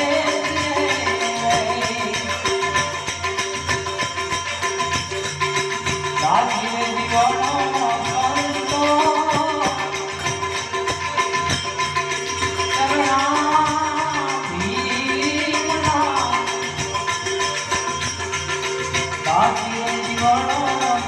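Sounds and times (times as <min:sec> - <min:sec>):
jingling percussion beat: 0:00.0 - 0:21.0.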